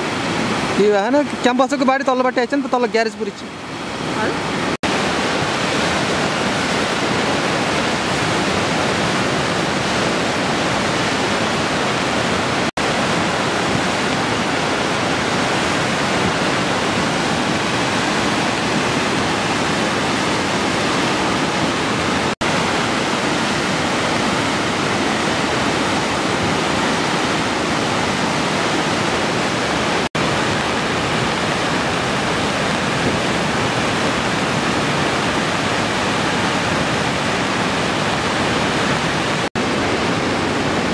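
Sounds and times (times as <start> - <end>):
river roaring in flood: 0.0 - 40.9.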